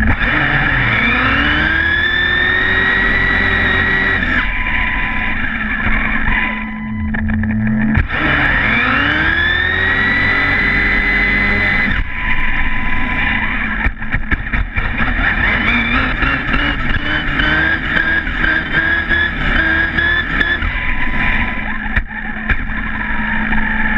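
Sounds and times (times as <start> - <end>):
electric motor whining: 0.0 - 23.9.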